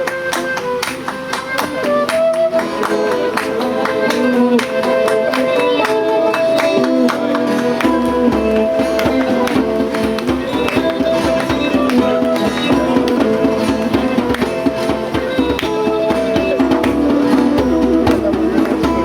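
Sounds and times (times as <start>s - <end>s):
held melody line: 0.0s - 19.0s
percussion beat: 0.0s - 19.0s
plucked strings: 0.0s - 19.0s.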